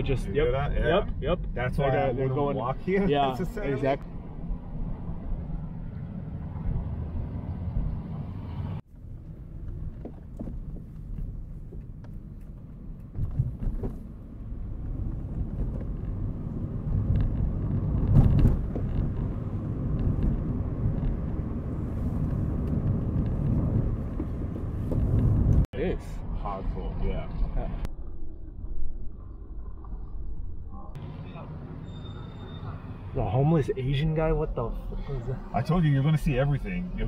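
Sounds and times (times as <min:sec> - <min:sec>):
car engine and tyre rumble: 0:00.0 - 0:37.0.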